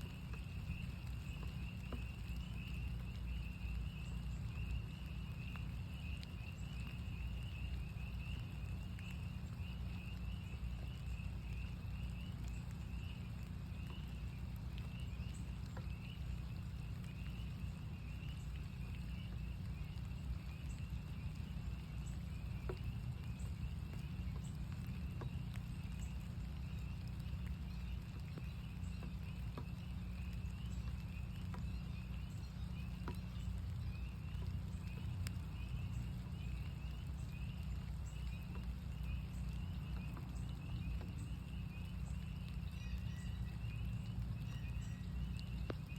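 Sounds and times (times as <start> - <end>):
frogs peeping: 0.0 - 45.9
rain drips: 0.0 - 45.9
steady low rumble: 0.0 - 45.9.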